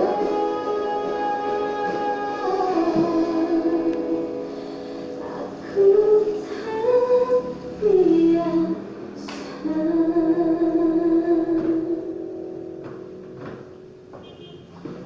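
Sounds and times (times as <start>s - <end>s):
song with sung melody: 0.0s - 13.8s.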